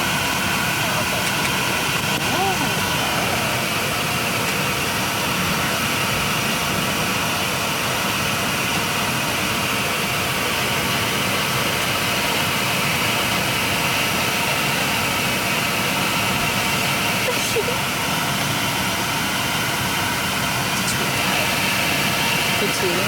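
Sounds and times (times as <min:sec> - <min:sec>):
jet engines rushing: 0:00.0 - 0:23.0.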